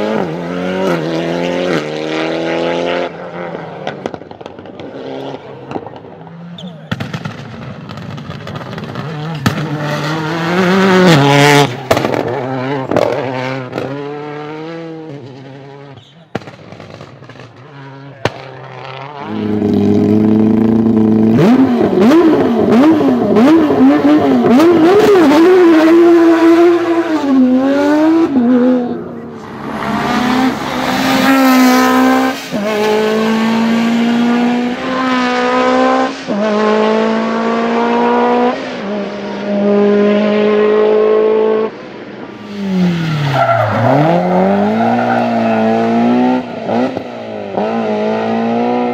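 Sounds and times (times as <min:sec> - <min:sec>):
rally car engine revving: 0:00.0 - 0:48.9.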